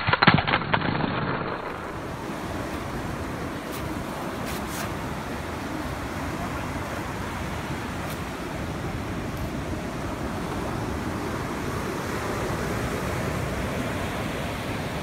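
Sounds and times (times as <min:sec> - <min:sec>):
surf washing: 0:01.7 - 0:15.0.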